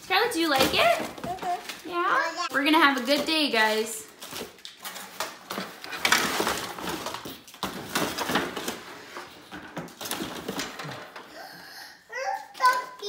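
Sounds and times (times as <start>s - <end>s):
plastic toys crinkling: 0.5s - 11.5s.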